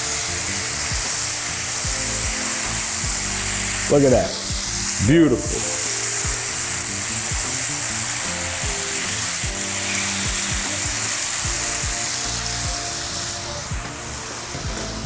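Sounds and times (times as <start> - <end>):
background music: 0.0 - 15.0
chicken sizzling in hot oil: 0.0 - 15.0.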